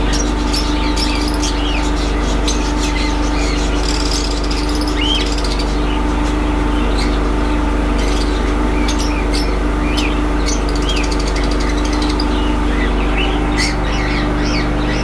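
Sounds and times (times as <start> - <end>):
cockatiels chirping and calling: 0.0 - 15.0
steady hum: 0.0 - 15.0.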